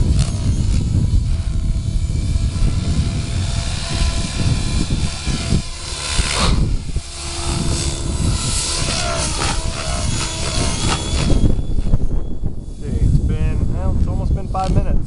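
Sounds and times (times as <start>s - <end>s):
electric motor whine: 0.0s - 15.0s
helicopter rotor blades whooshing: 0.0s - 15.0s
wind buffeting microphone: 0.0s - 15.0s.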